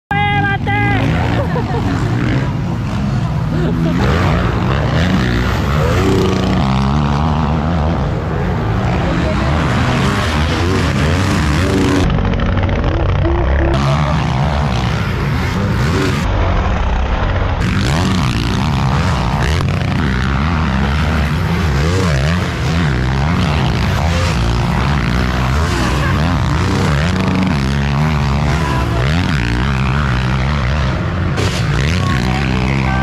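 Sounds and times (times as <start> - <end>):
motocross bikes revving: 0.1 - 33.0.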